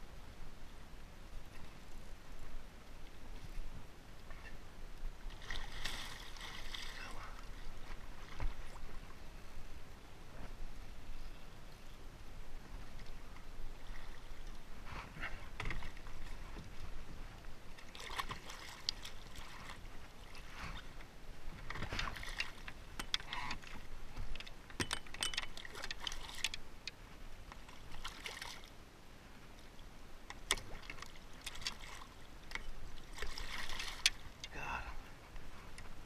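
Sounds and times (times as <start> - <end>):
water lapping against hull: 1.3 - 36.0.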